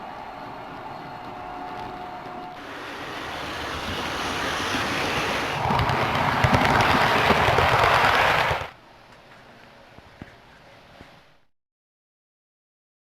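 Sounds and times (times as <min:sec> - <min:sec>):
train rolling on rails: 0:00.0 - 0:11.4.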